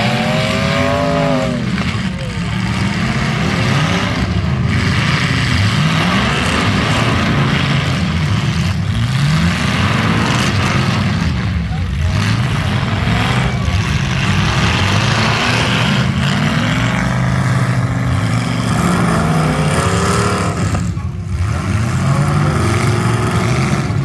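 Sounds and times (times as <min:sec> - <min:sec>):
car engines revving hard: 0:00.0 - 0:24.0.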